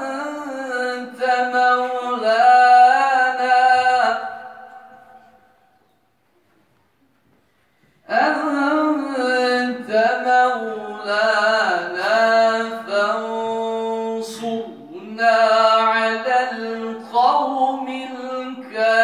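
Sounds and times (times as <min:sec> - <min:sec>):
man chanting through microphone: 0:00.0 - 0:05.6, 0:08.1 - 0:19.0.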